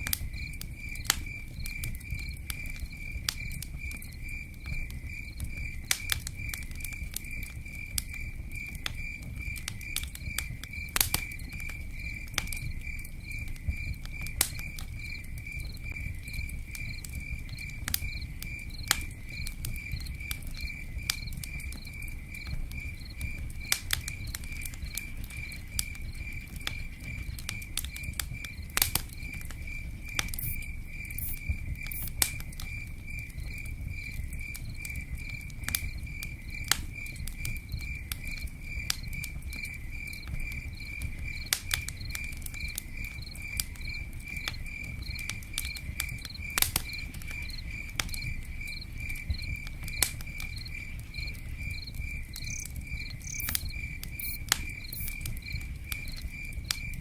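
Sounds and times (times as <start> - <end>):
campfire crackling and popping: 0.0 - 57.0
cricket chirping: 0.0 - 57.0.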